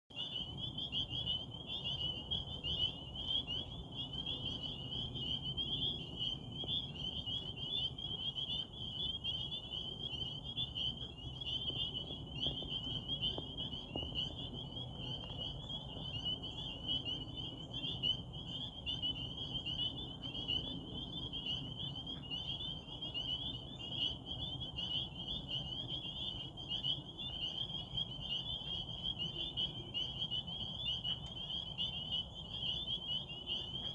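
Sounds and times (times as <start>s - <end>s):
chorus of frogs calling: 0.1s - 33.9s.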